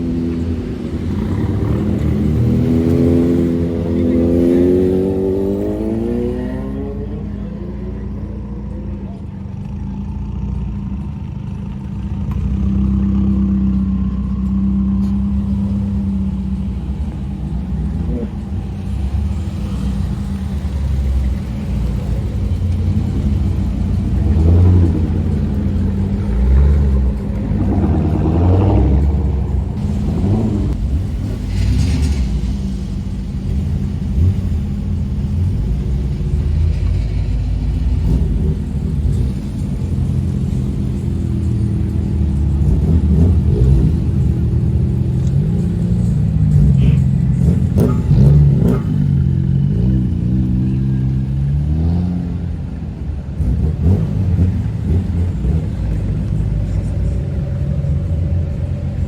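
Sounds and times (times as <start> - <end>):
car engine exhaust drone: 0.0 - 59.0.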